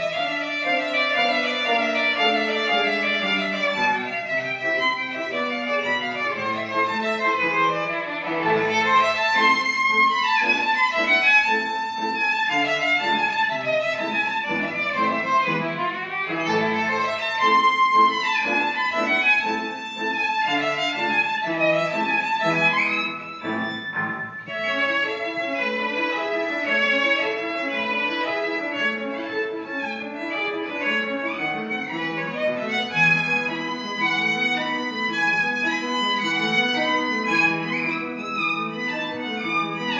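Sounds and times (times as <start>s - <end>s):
violin playing classical melody: 0.0s - 39.9s.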